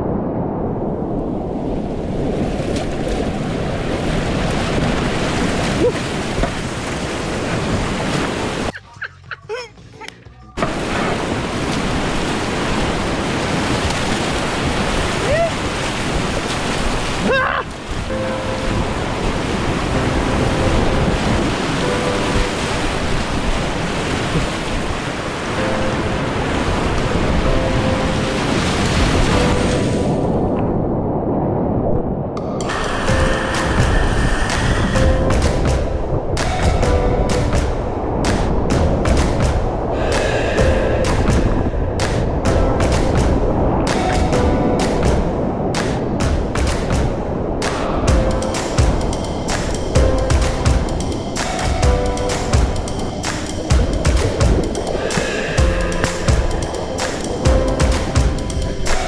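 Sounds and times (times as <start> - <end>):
rapids rushing water: 2.0 - 30.8, 32.4 - 59.0.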